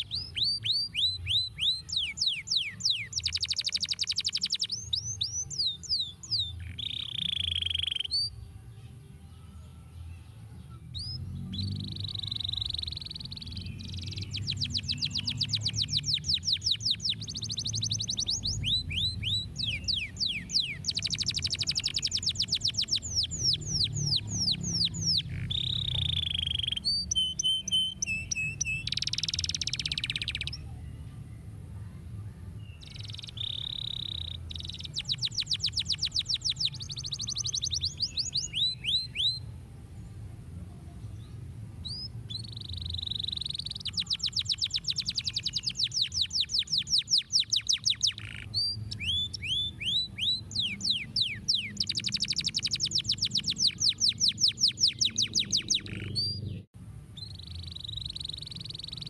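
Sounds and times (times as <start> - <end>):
canary singing trills: 0.0 - 8.4, 10.6 - 30.9, 32.6 - 39.5, 41.2 - 59.0.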